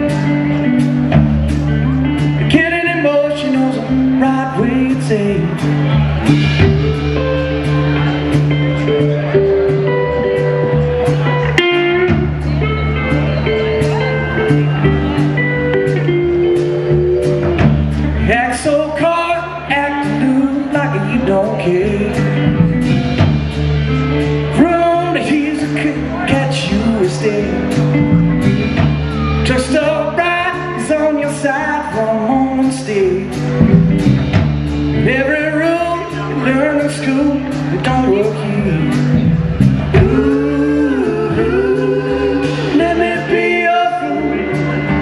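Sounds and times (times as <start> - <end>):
blues-rock band playing: 0.0 - 45.0
person singing: 1.6 - 23.2, 24.2 - 33.8, 35.0 - 45.0.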